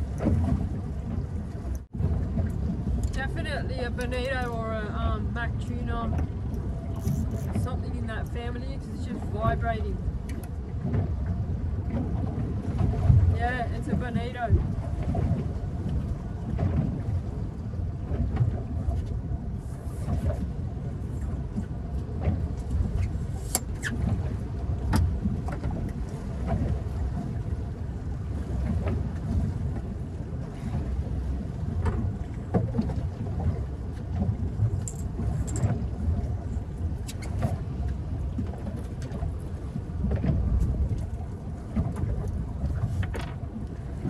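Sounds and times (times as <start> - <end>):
wind on microphone: 0.0 - 44.0.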